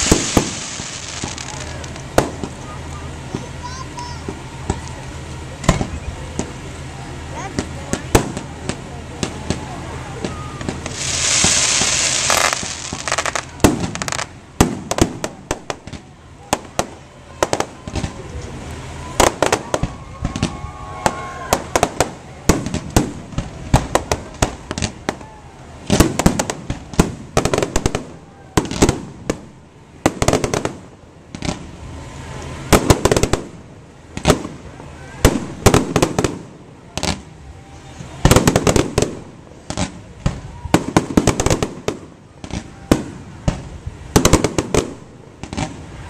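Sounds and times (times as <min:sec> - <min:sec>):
fireworks bursting and crackling: 0:00.0 - 0:46.0.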